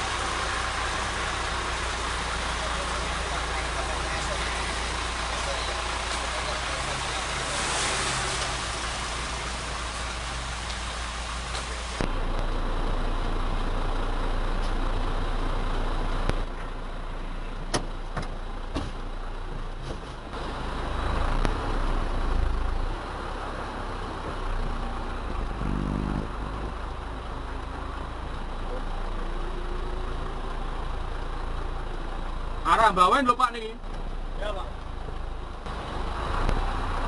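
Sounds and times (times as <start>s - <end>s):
outdoor vehicle noise: 0.0s - 37.0s
truck engine rumble in cab: 0.0s - 37.0s.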